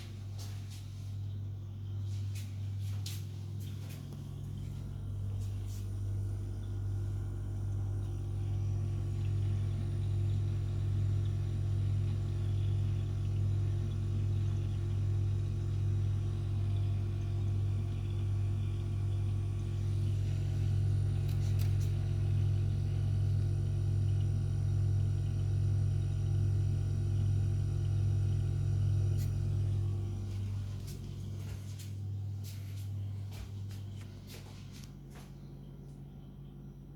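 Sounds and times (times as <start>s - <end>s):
refrigerator compressor humming: 0.0s - 36.9s.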